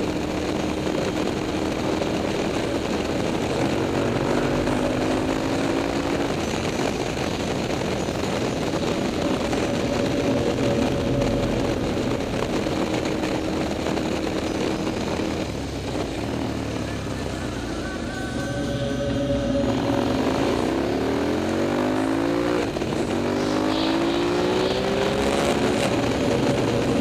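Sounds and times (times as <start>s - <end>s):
motorcycle engine running: 0.0s - 27.0s
steady rushing noise: 0.0s - 27.0s.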